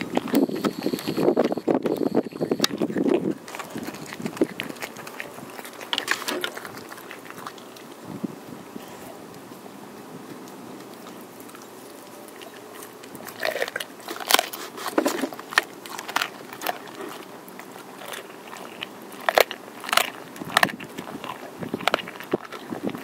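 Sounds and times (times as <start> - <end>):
dog crunching bones: 0.0 - 8.0, 10.3 - 23.0.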